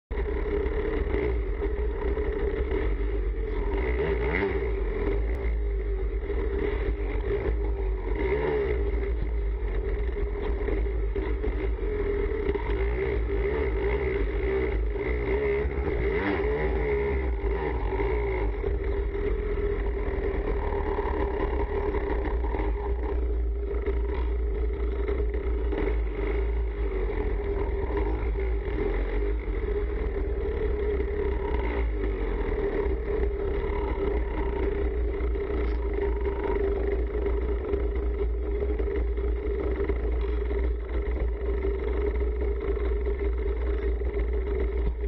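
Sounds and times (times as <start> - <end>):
motorcycle engines revving: 0.1 - 45.0.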